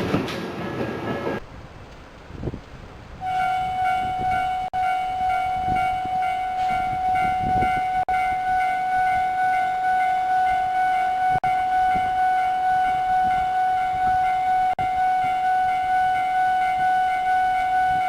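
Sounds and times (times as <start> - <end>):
level-crossing alarm pulsing tone: 3.2 - 18.0.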